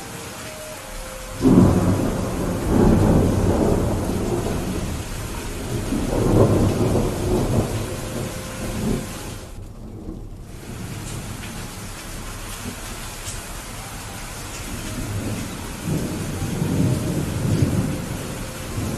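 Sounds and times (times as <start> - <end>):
steady rain: 0.0 - 18.9
rolling thunder: 0.9 - 13.7, 14.3 - 18.9.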